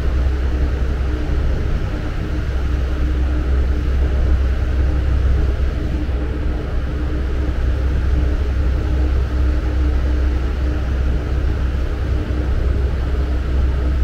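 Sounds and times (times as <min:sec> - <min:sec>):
faint constant hum: 0:00.0 - 0:14.0.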